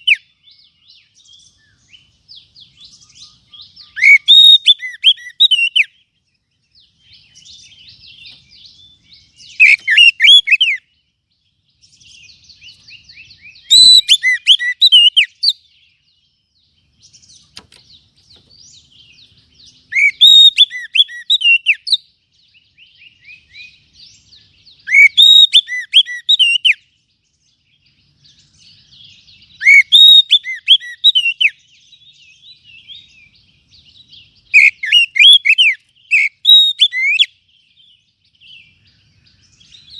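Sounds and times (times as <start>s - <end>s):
bird whistled song phrases: 0.0s - 17.5s, 18.5s - 39.9s
quiet bird chattering: 0.0s - 39.9s.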